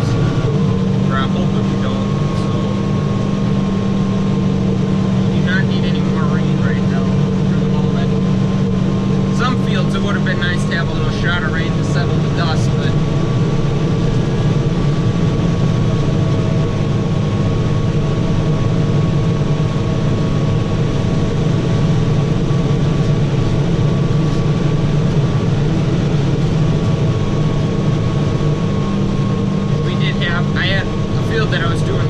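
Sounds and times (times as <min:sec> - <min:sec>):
thin steady whine: 0:00.0 - 0:32.0
tractor engine running: 0:00.0 - 0:32.0.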